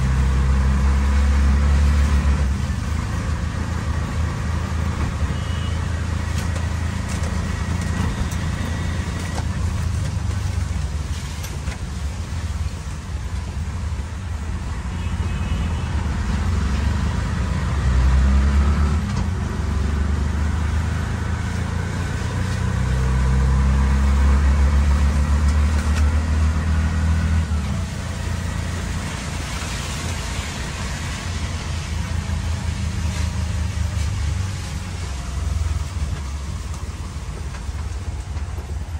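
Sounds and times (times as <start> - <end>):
traffic hiss: 0.0 - 38.9.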